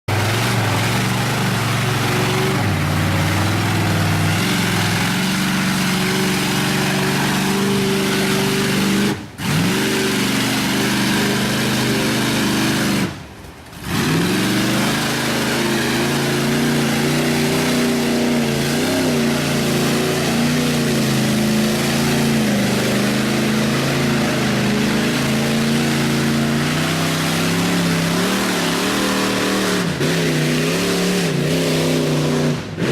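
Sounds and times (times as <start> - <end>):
truck engine revving hard: 0.1 - 32.9.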